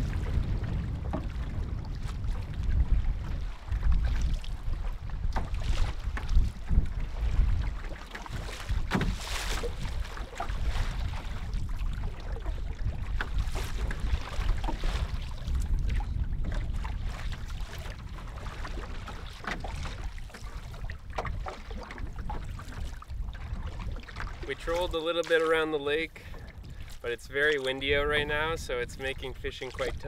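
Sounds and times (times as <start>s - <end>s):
water splashing against canoe: 0.0s - 30.0s
wind on microphone: 0.0s - 30.0s.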